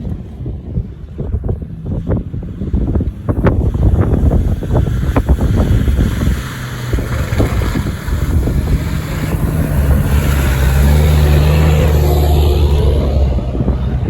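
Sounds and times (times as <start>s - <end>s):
off-road vehicle engine running: 0.0s - 14.0s
wind buffeting microphone: 0.0s - 14.0s.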